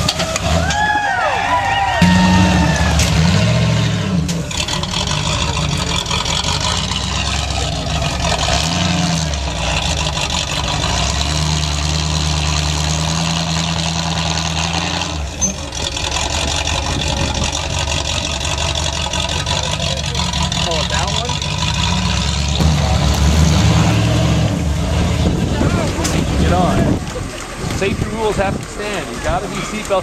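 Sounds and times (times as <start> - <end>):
engine revving under load: 1.9 - 29.5.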